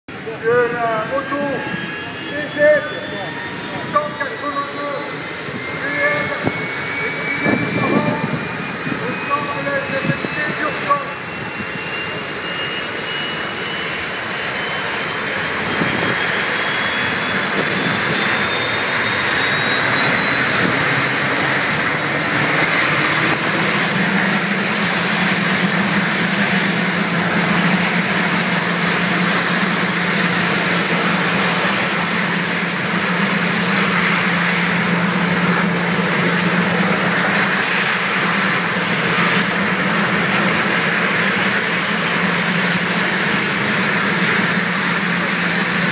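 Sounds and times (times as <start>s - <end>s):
turbojet engine whine: 0.0s - 45.9s.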